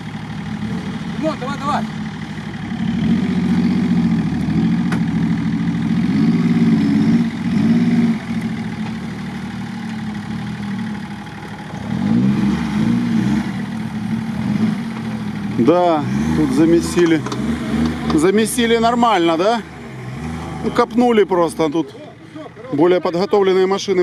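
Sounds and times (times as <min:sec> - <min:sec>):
suv engine revving: 0:00.0 - 0:24.0.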